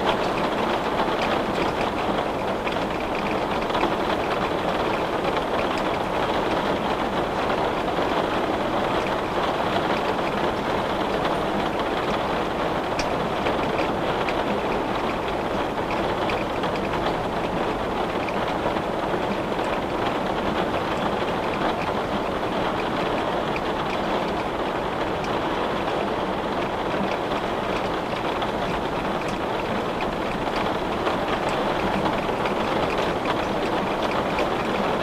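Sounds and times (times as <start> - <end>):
rain against a window: 0.0 - 35.0.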